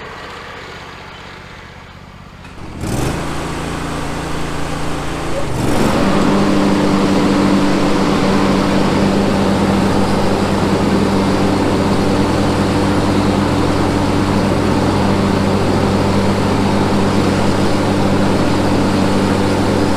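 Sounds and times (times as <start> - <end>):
riding lawn mower engine running: 0.0 - 19.9.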